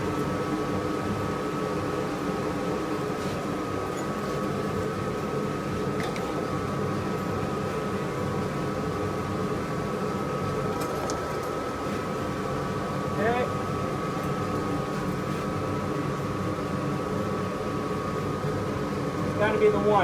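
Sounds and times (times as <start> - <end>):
machine and fan hum: 0.0 - 20.0.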